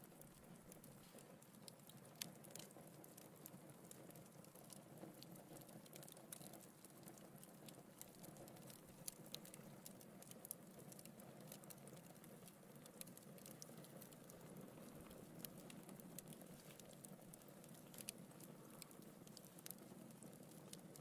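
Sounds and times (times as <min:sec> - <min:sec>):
fire hissing and crackling: 0:00.1 - 0:21.0.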